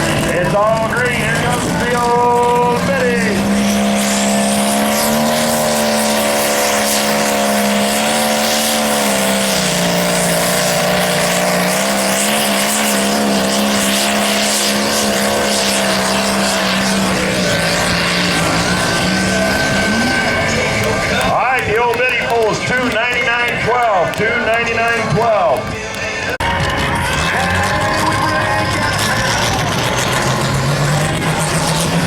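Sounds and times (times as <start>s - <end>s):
tractor engine at high revs: 0.0s - 32.0s.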